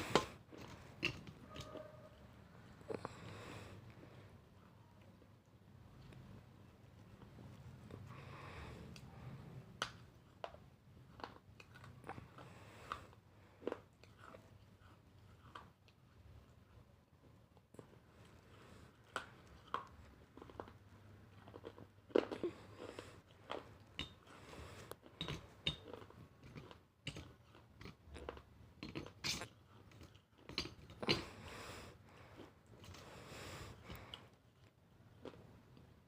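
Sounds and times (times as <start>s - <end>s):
chewing and crunching food: 0.0s - 36.0s.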